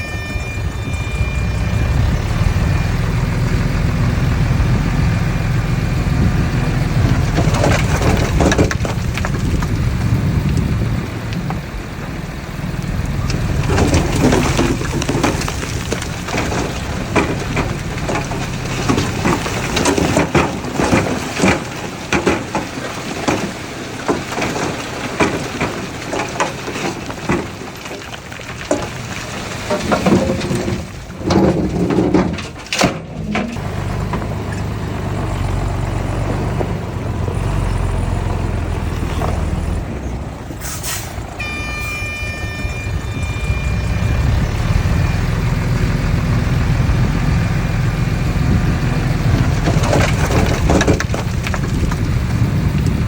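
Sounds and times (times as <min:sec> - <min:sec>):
heavy machinery engine rumble: 0:00.0 - 0:53.0
soil and stones crunching: 0:00.0 - 0:53.0.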